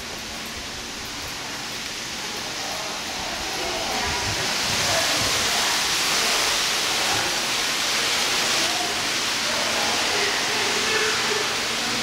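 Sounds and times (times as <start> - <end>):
steady rushing hiss: 0.0 - 12.0
faint distant voices: 1.2 - 12.0.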